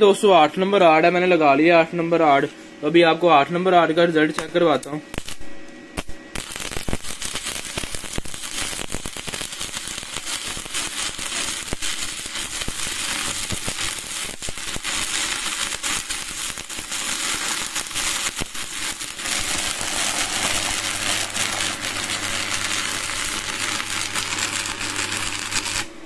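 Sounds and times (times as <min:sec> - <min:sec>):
welding arc crackling: 0:04.4 - 0:26.0.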